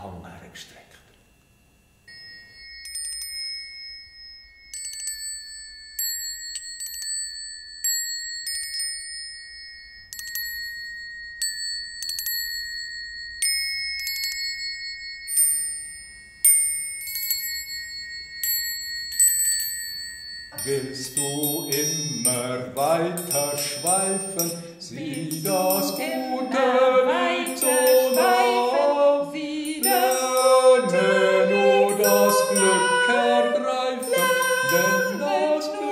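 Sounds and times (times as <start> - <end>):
singing bowls ringing: 1.2 - 35.9.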